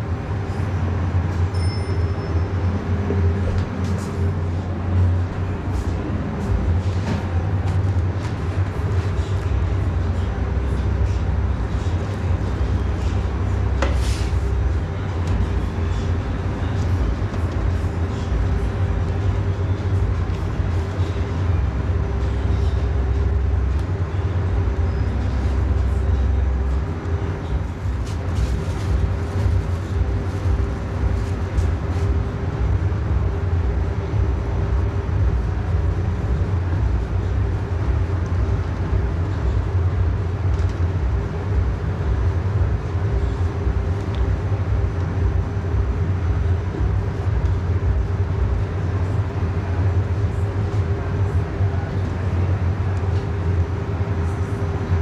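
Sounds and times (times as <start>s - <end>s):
low machine rumble: 0.0s - 55.0s.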